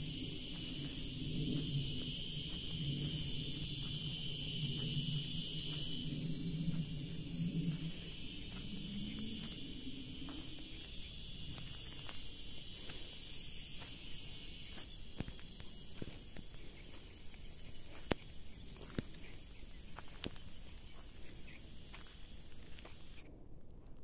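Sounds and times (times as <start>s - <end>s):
footsteps on stony dirt: 0.0s - 23.0s
insects chirring: 0.0s - 23.3s.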